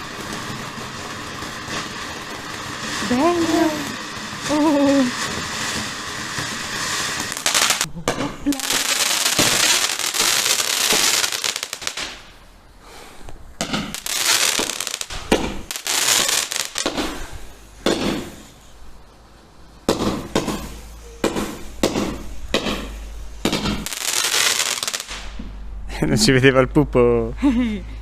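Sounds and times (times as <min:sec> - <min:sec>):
fireworks cracks and pops: 0:00.0 - 0:12.4, 0:13.6 - 0:18.7, 0:19.9 - 0:25.5
fireworks hissing: 0:00.0 - 0:25.6.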